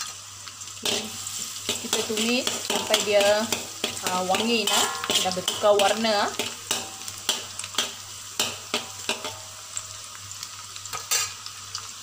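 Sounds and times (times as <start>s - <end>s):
garlic sizzling in hot oil: 0.0s - 12.0s
spatula scraping wok: 0.8s - 10.1s, 10.9s - 11.4s.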